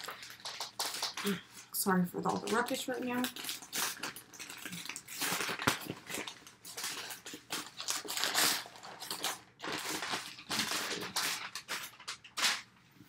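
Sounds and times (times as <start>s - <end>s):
paper and packaging rustling: 0.0s - 12.8s.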